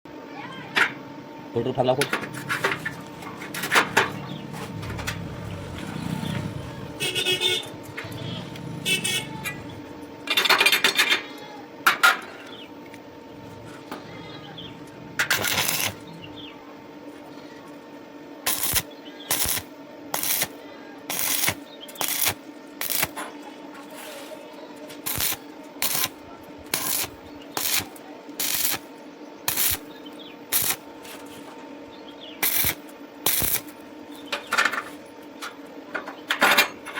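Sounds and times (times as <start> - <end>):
steady electrical hum: 0.1 - 36.9.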